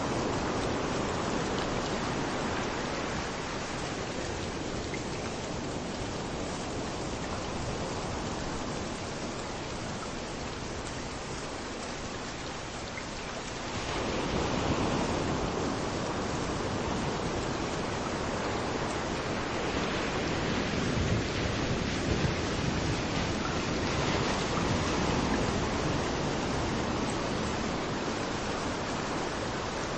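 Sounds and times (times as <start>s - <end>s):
rain falling: 0.0s - 29.9s
waves washing onto beach: 0.0s - 29.9s.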